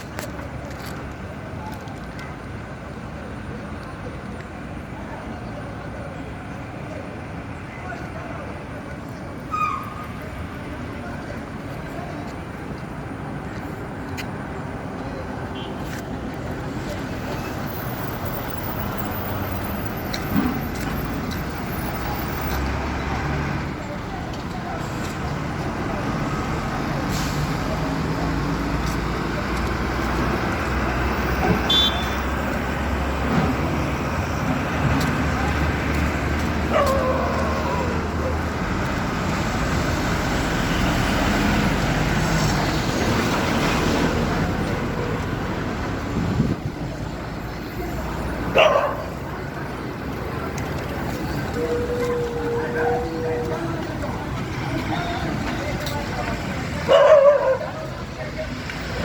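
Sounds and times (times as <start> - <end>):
road traffic rumbling: 0.0 - 59.0
vehicle engines running: 0.0 - 59.0.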